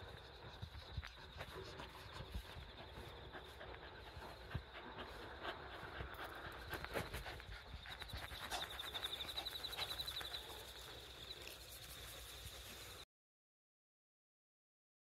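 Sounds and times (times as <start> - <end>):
soft dog sounds: 0.0 - 13.0.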